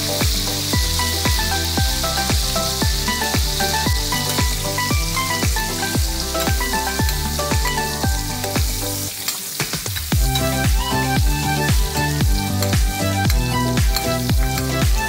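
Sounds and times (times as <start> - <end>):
electronic music with a beat: 0.0 - 15.0
fish sizzling in a frying pan: 0.0 - 15.0.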